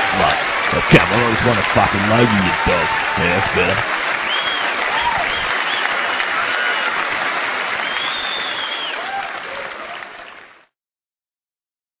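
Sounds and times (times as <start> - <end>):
large audience applauding: 0.0 - 10.7.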